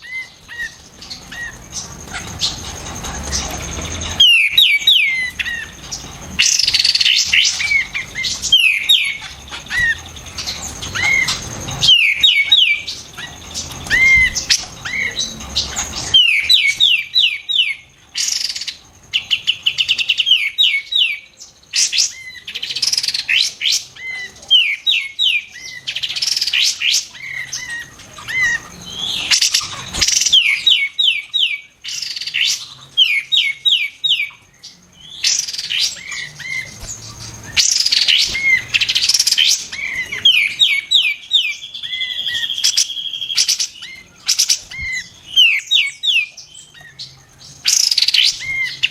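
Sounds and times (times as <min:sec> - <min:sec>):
bulbul bird singing: 0:00.0 - 0:48.9.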